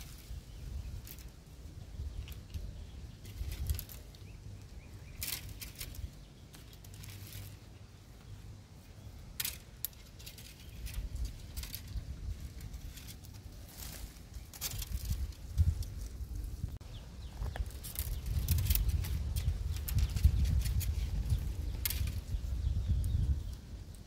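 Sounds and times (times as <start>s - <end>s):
leaves and twigs rustling: 0.0s - 24.0s.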